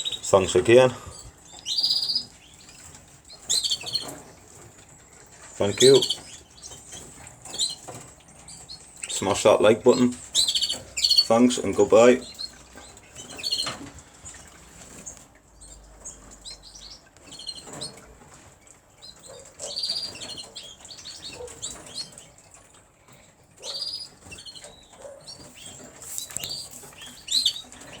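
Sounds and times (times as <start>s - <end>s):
canaries chirping: 0.0s - 28.0s.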